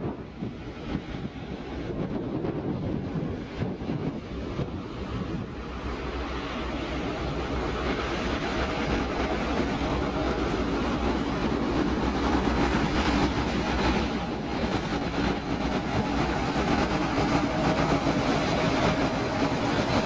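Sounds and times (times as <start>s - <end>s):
diesel locomotive engine: 0.0s - 20.0s
wheels rumbling on rails: 0.0s - 20.0s.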